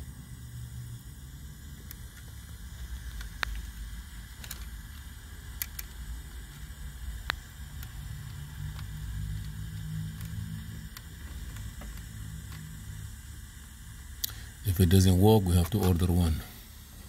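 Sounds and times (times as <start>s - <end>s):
low steady rumble: 0.0s - 17.0s
solder crackling: 0.0s - 17.0s.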